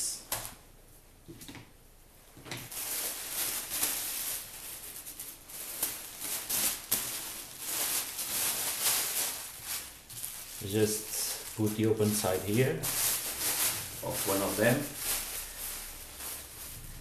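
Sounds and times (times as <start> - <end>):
plastic bags rustling and crinkling: 2.3 - 17.0.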